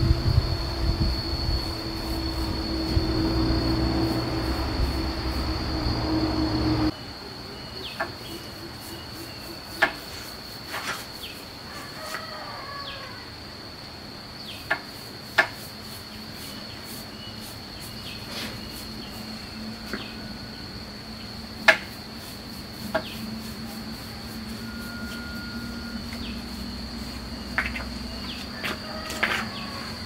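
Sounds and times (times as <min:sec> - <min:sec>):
high insect drone: 0:00.0 - 0:30.0.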